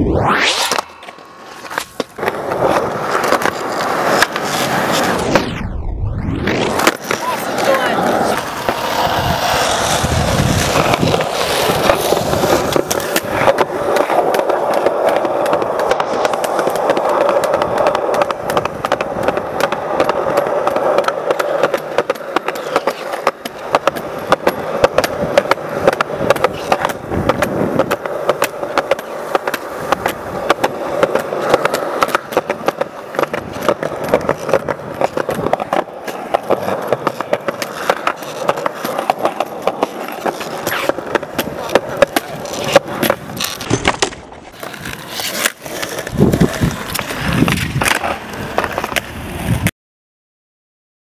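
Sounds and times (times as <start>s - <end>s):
skateboard wheels rolling on concrete: 0.0s - 49.7s
skateboard clacking on ground: 0.7s - 5.3s, 6.7s - 49.7s.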